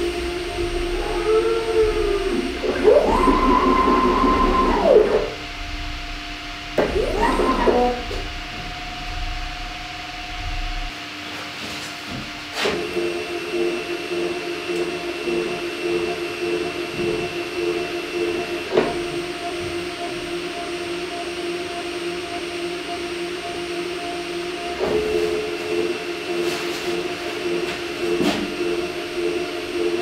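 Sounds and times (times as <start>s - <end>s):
stepper motors whining: 0.0s - 10.9s, 12.3s - 30.0s.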